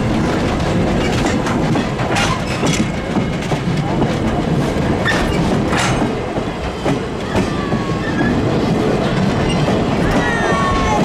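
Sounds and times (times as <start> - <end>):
train wheels clicking over rail joints: 0.0 - 11.0.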